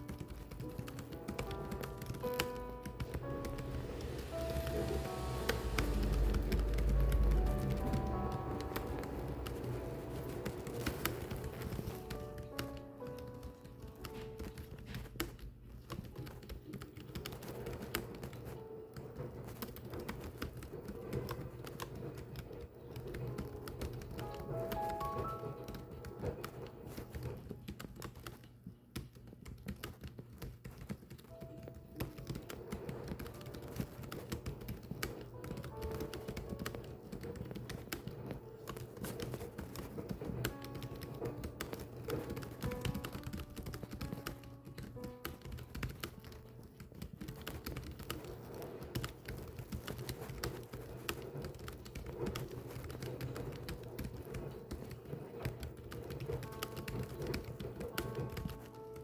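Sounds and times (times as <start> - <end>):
keyboard typing clicks: 0.0 - 59.0
soft background music: 0.0 - 59.0.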